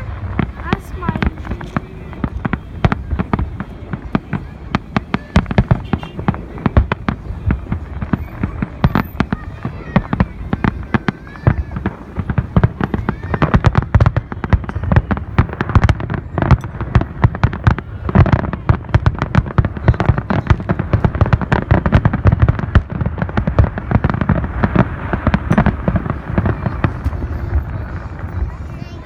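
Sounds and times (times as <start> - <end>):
fireworks bangs and cracks: 0.0 - 29.0.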